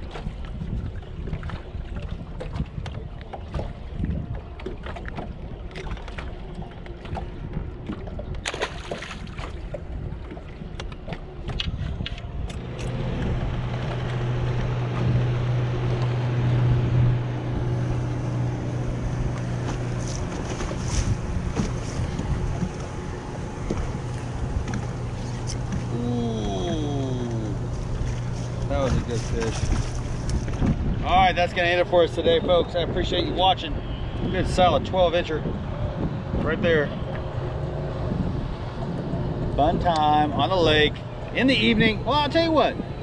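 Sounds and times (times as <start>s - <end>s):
boat motor humming: 0.0s - 43.0s
water noise: 0.0s - 43.0s
wind rumble on microphone: 0.0s - 43.0s.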